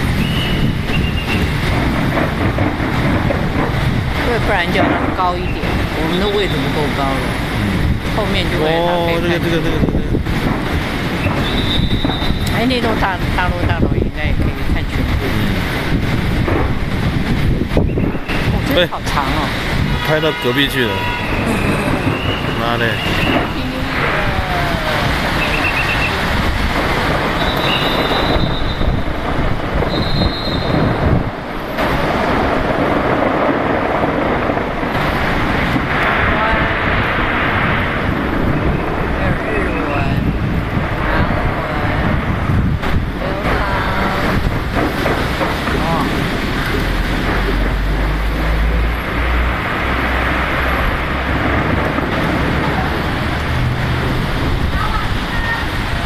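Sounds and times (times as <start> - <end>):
distant fireworks bangs: 0.0 - 56.0.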